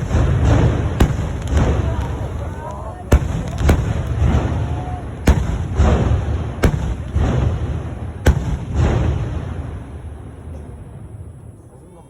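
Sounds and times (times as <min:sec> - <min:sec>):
fireworks bangs: 0:00.0 - 0:11.7
fireworks crackling: 0:00.0 - 0:11.8.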